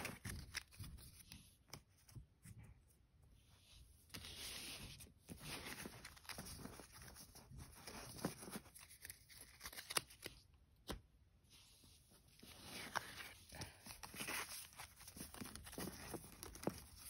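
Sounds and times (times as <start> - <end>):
cards rustling and sliding: 0.0 - 2.4, 3.8 - 11.1, 12.1 - 17.0.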